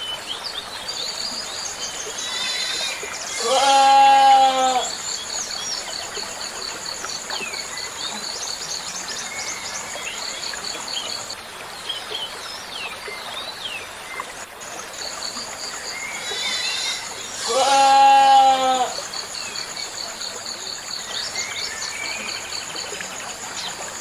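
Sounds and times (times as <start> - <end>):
water running into pond: 0.0 - 24.0.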